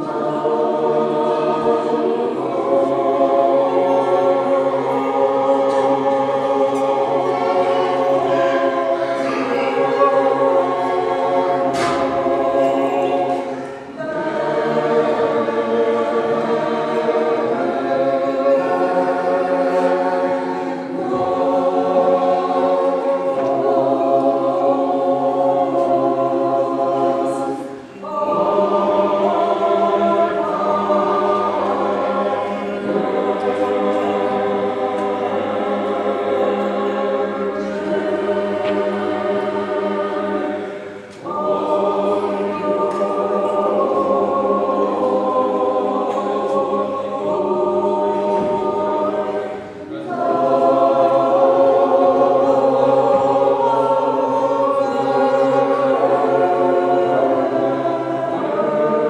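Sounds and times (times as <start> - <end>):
choir chanting a cappella: 0.0 - 59.0.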